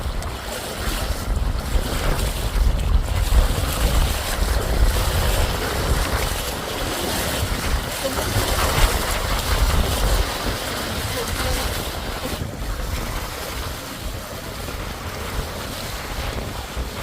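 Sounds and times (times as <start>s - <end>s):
water splashing along a hull: 0.0s - 17.0s
wind buffeting microphone: 0.0s - 17.0s.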